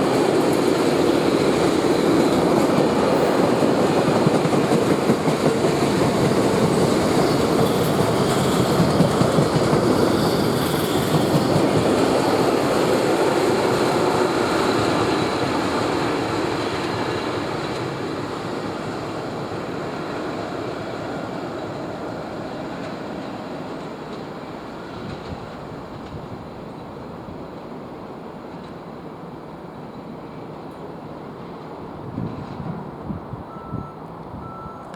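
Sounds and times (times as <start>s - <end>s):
freight train rolling past: 0.0s - 34.9s.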